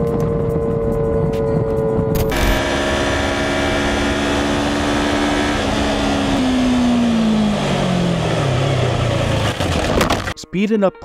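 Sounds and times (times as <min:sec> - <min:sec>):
motorcycle engine running: 0:00.0 - 0:10.3
wind and road rush: 0:00.0 - 0:10.4.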